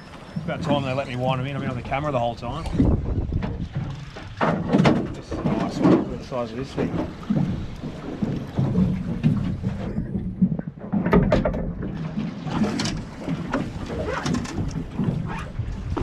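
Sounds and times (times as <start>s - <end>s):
water slapping against boat hull: 0.0s - 16.0s
wind on microphone: 0.0s - 16.0s
sharp splashes or knocks: 2.6s - 16.0s.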